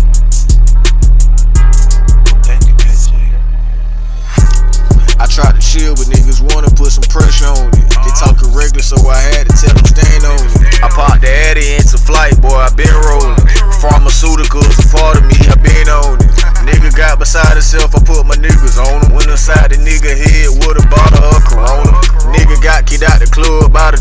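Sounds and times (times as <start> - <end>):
drum hits: 0.0 - 3.0, 4.4 - 11.2, 11.8 - 19.2, 20.3 - 22.5
rapping over a beat: 0.0 - 3.8, 4.4 - 24.0
heavy bass: 0.0 - 24.0.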